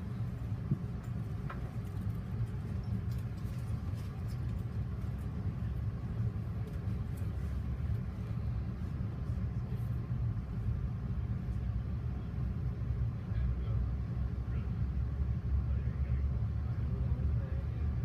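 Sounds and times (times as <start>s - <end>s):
train coach rumbling on track: 0.0s - 18.0s.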